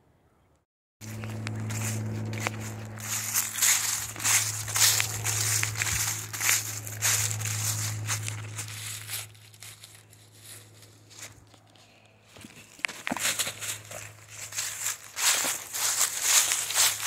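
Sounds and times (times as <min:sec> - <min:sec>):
footsteps on dry leaves: 0:01.0 - 0:17.0
steady low hum: 0:01.0 - 0:17.0.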